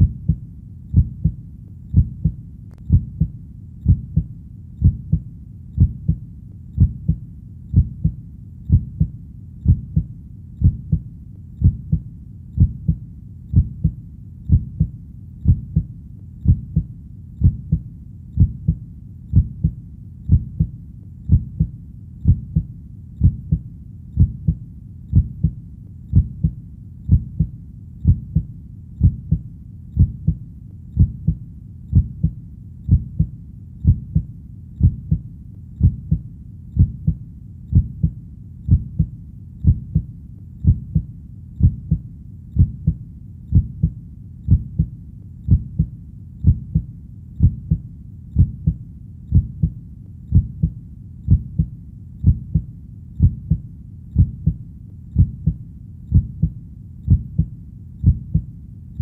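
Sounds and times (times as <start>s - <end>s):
heartbeat thumping: 0.0s - 6.2s, 6.8s - 58.5s.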